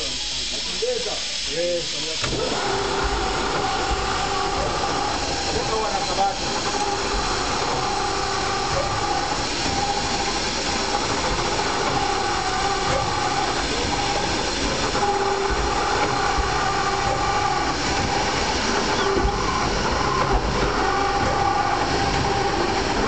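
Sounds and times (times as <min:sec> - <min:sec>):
machine clatter and rumble: 0:02.2 - 0:23.0.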